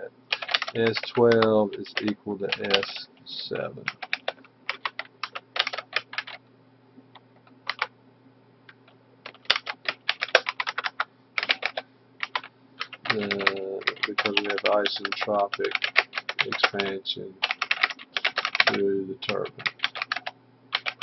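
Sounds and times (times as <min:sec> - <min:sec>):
faint steady hum: 0:00.0 - 0:21.0
keyboard typing: 0:00.3 - 0:03.0, 0:03.9 - 0:06.4, 0:07.4 - 0:07.9, 0:08.8 - 0:21.0.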